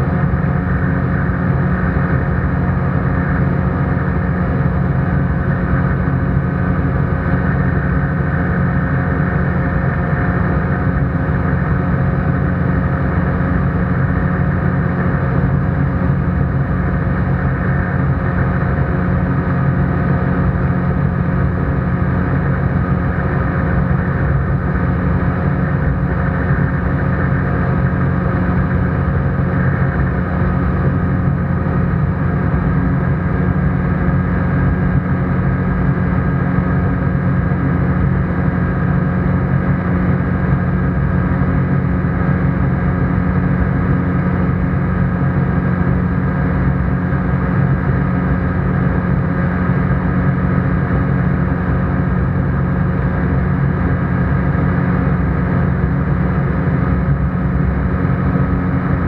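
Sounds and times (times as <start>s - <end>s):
ultralight engine and propeller droning: 0.0s - 59.0s.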